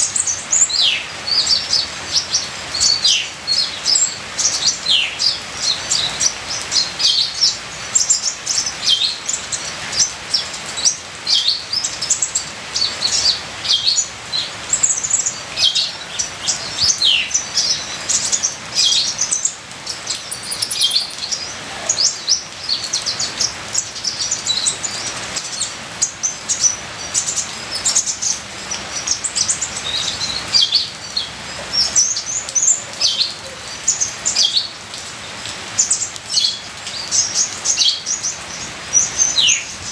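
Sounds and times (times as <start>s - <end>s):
bird chirping: 0.0s - 34.8s, 35.8s - 39.9s
rain water patter: 0.0s - 39.9s.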